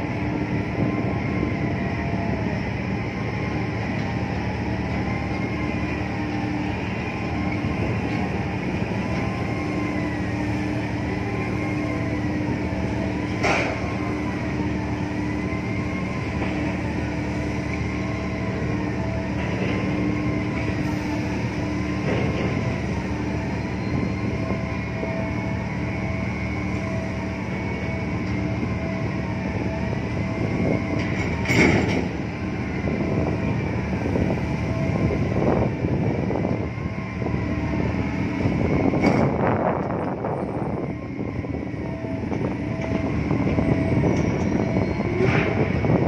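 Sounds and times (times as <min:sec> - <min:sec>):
low machine drone: 0:00.0 - 0:46.0
wavering high whine: 0:00.0 - 0:46.0.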